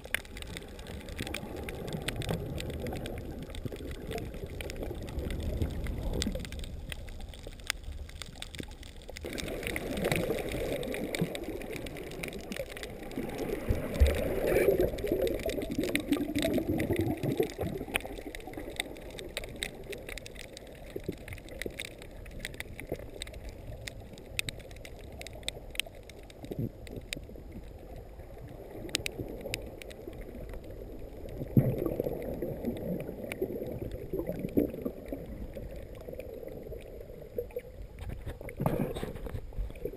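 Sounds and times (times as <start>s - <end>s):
faint clicks: 0.0s - 39.9s
muffled underwater rushing water: 0.0s - 39.9s.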